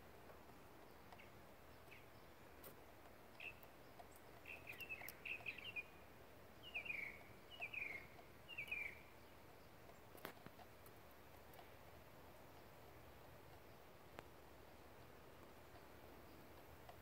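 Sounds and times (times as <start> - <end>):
quiet outdoor background noise: 0.0 - 17.0
small bird chirping: 0.7 - 17.0.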